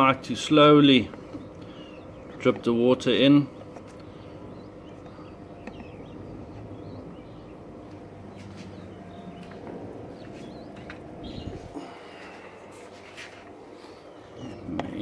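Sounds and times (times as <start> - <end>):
faint birdsong chirps: 0.0 - 15.0
low steady hum: 0.0 - 15.0.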